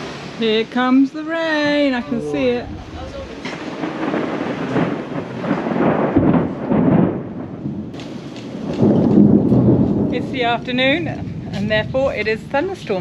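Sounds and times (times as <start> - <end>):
rain hissing: 0.0 - 13.0
rolling thunder: 1.8 - 13.0.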